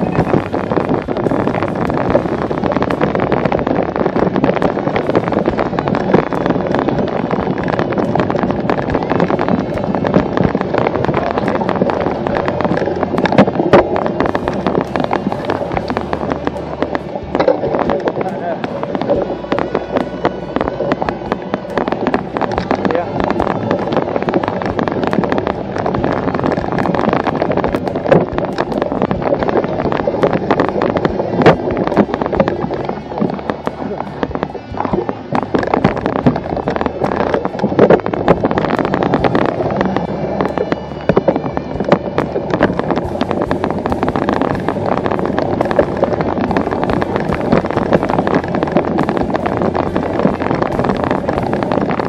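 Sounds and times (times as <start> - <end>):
bike tyres crackling over leaves: 0.0 - 52.0
wind buffeting microphone: 0.0 - 52.0.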